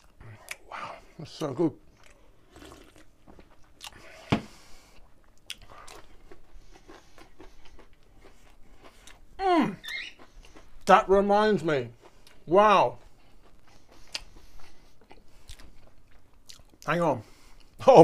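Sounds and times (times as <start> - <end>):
man chewing food: 0.0 - 17.8.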